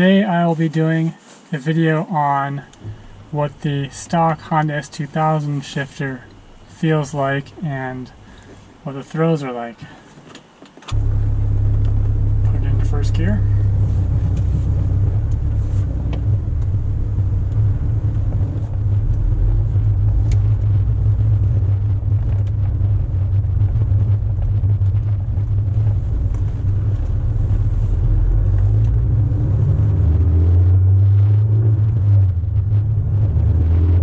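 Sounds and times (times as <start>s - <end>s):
road noise: 0.0s - 34.0s
car engine drone: 2.1s - 9.8s, 10.9s - 34.0s.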